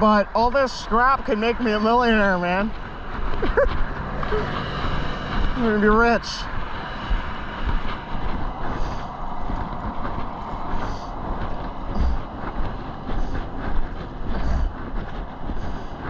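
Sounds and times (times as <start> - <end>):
highway traffic rushing past: 0.0 - 16.0.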